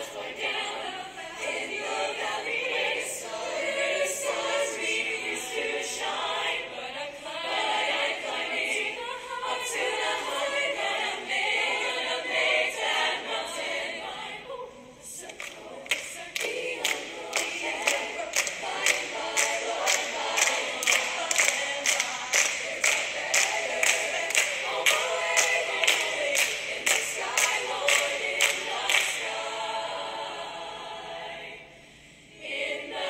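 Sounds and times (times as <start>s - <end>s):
choir singing a cappella: 0.0s - 33.0s.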